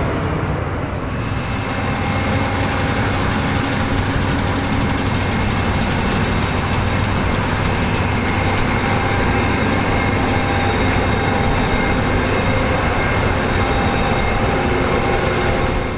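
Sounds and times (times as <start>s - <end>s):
combine harvester engine drone: 0.0s - 15.9s.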